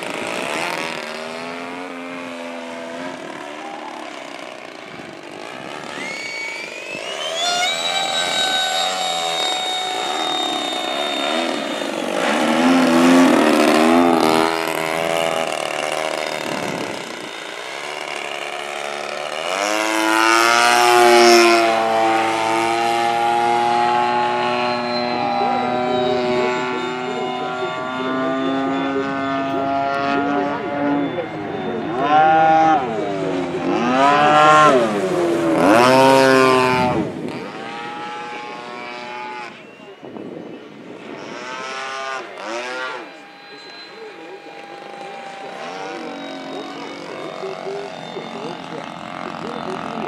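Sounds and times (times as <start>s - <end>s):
model plane engine buzzing: 0.0s - 50.0s.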